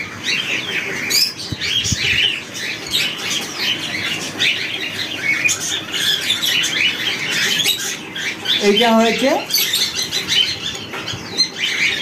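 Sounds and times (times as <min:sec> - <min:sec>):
parrots chattering and chirping: 0:00.0 - 0:12.0.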